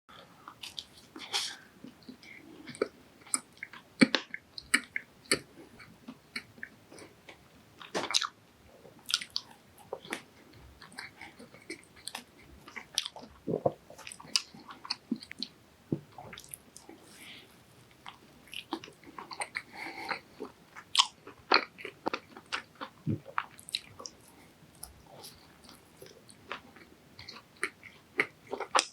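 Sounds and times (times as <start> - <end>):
person chewing doughnuts: 0.4 - 28.9.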